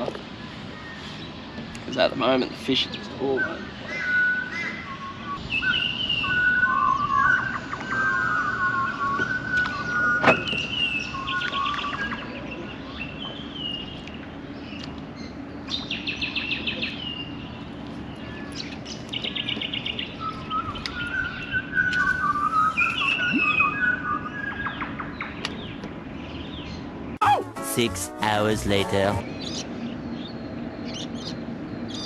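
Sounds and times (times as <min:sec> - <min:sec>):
birds chirping and trilling: 0:00.3 - 0:27.0.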